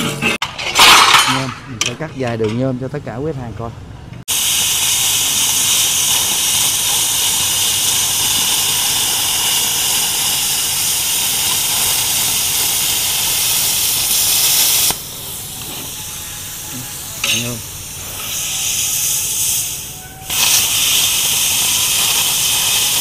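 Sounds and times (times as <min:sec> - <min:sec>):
plasma cutter hissing: 0:04.3 - 0:23.0.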